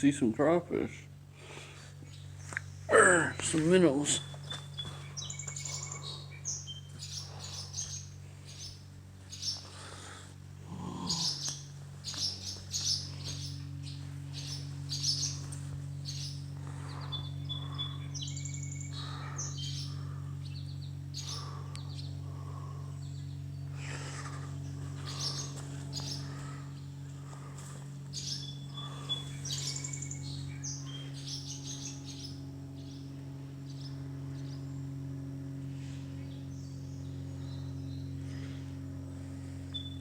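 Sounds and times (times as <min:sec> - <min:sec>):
low hum: 0:00.0 - 0:40.0
songbirds chirping and trilling: 0:00.0 - 0:40.0.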